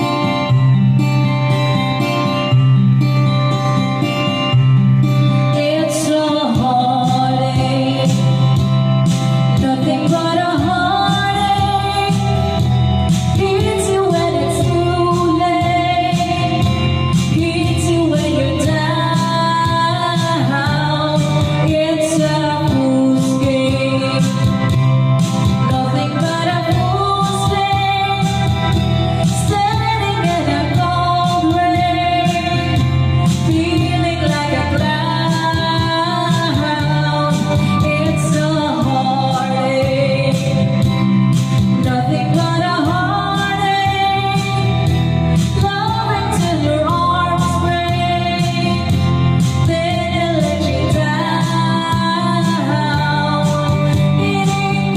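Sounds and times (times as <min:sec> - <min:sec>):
woman singing over steady beat: 0:03.3 - 0:54.9.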